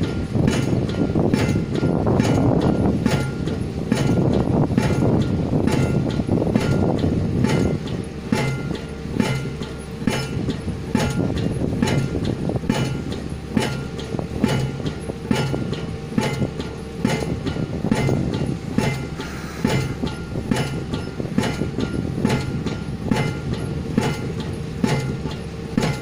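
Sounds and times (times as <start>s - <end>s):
pile driver hammer clanking: 0.0s - 26.0s.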